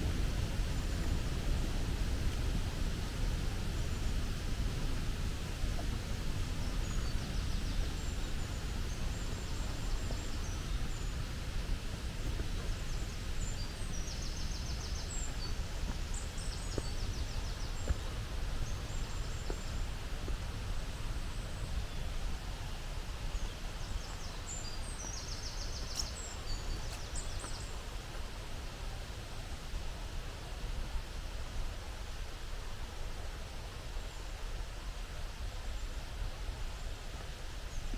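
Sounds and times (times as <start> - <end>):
songbirds chirping: 0.0 - 30.5.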